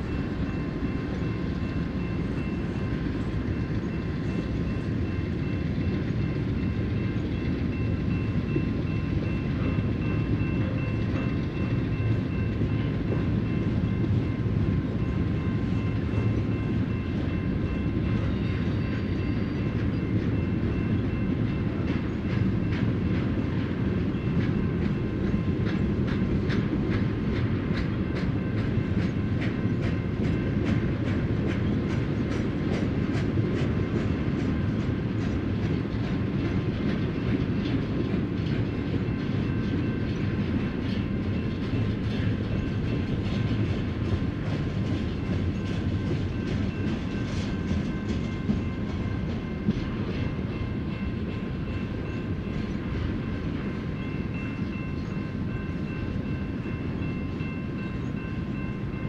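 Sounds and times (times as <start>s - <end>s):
steel wheels rumbling on rail: 0.0s - 59.0s.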